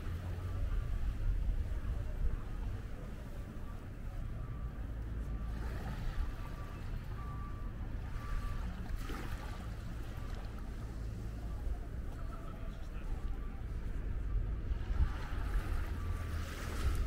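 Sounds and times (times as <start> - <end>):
faint wash of water: 0.0 - 17.0.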